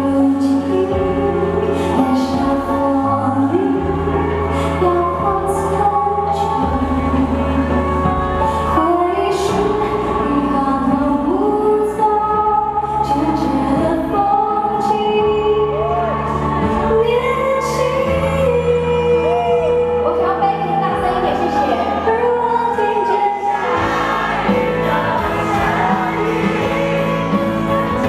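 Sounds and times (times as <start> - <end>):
band accompaniment with bass: 0.0 - 28.0
woman singing: 0.0 - 28.0.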